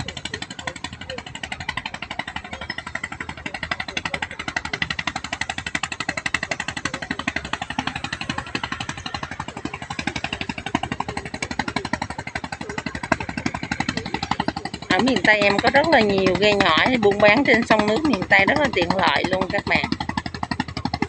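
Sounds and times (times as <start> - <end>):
boat engine chugging: 0.0 - 21.0.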